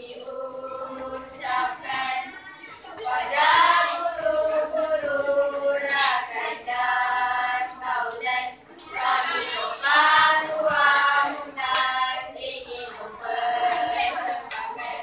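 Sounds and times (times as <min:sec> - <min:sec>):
girls singing together: 0:00.0 - 0:15.0.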